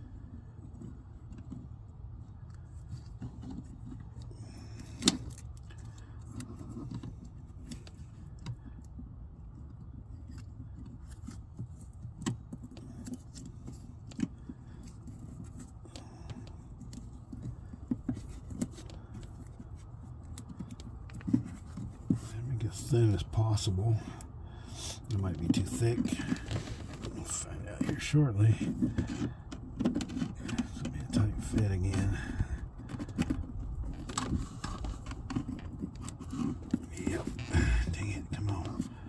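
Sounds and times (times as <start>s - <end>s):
steady low hum: 0.0s - 39.0s
clicks and rattles of wiring: 0.6s - 22.3s, 25.8s - 37.0s.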